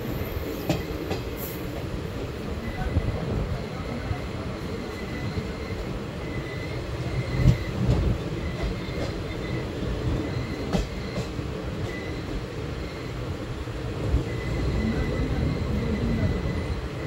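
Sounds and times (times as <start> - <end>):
rumble of wheels on rails: 0.0 - 17.0.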